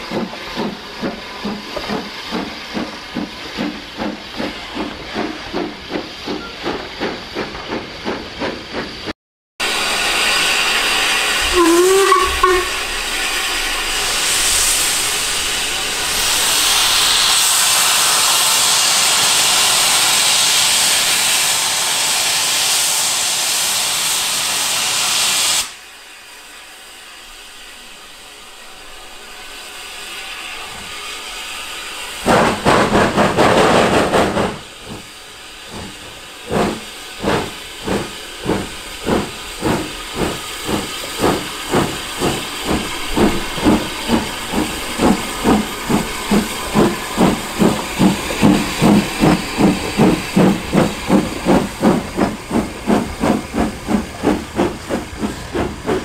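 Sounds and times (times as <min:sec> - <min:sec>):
steam hissing: 0:00.0 - 0:56.0
steam locomotive chuffing: 0:00.0 - 0:56.0
loud blast of steam: 0:09.6 - 0:56.0.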